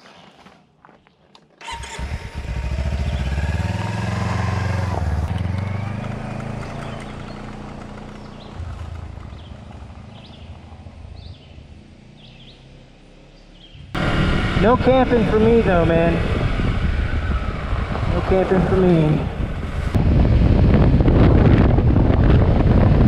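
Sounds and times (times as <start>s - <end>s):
motorcycle engine starting and running: 1.6s - 23.0s.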